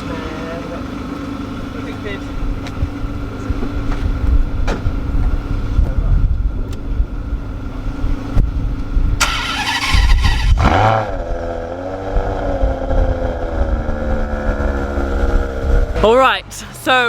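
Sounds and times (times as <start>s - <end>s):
car engine starting and idling: 0.0s - 17.0s.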